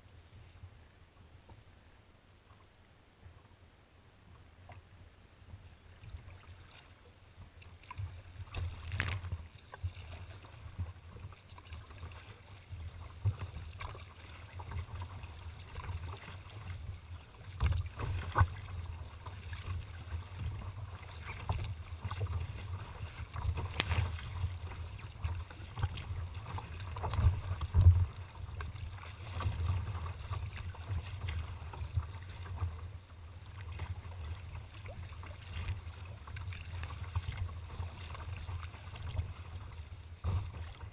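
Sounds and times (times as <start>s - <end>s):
water splashing against kayak hull: 4.3s - 40.9s.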